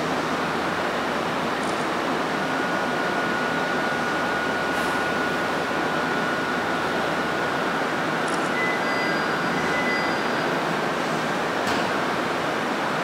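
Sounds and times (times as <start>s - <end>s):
thin steady whine: 0.0s - 11.2s.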